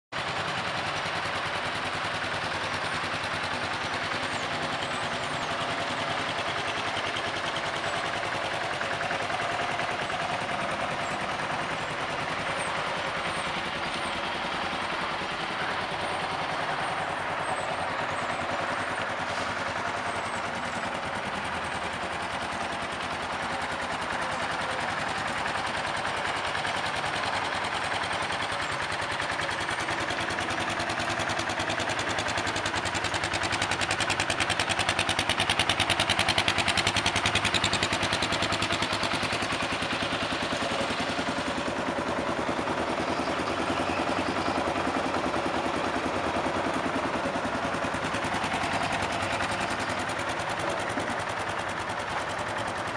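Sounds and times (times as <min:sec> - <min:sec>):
motorcycle engine idling: 0:00.2 - 0:52.9.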